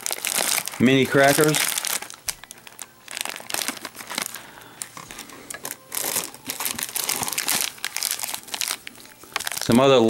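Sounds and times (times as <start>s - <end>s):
snack packets crinkling: 0.0s - 10.0s.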